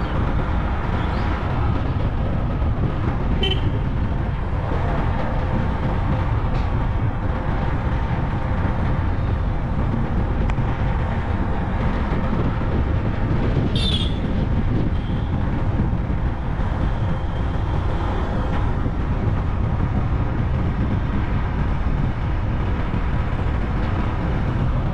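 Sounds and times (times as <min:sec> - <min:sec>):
vehicle rumble: 0:00.0 - 0:24.9.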